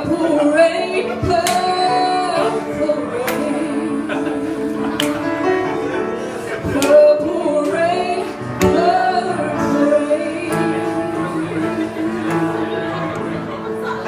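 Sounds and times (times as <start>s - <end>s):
woman singing: 0.0s - 5.3s, 6.6s - 13.2s
piano chords: 0.0s - 14.0s.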